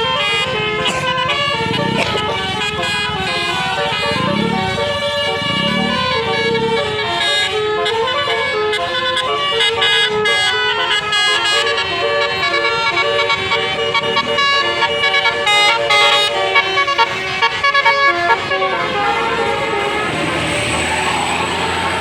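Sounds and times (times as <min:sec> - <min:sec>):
bus air horns playing a tune: 0:00.0 - 0:22.0.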